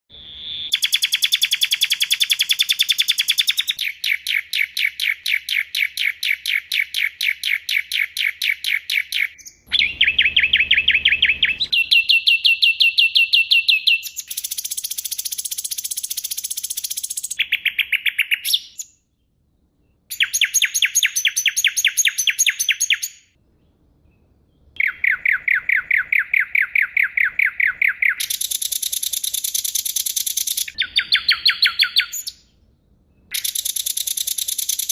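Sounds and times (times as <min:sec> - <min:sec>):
rapid chirping bird trills: 0:00.1 - 0:19.1, 0:20.1 - 0:23.4, 0:24.1 - 0:34.9.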